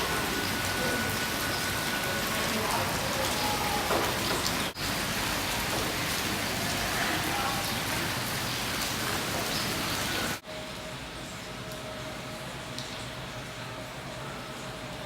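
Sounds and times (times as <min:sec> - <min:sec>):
rain on hard surfaces: 0:00.0 - 0:15.0.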